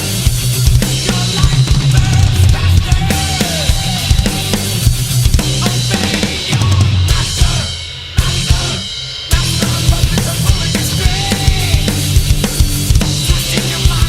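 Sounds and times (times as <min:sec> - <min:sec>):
heavy metal song: 0:00.0 - 0:14.0.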